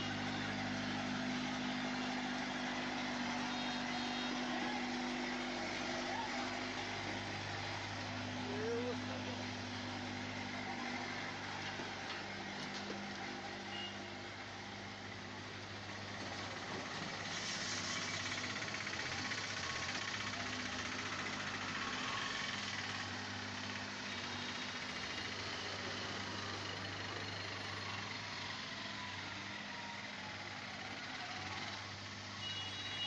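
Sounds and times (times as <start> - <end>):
diesel machinery engines running: 0.0 - 32.7.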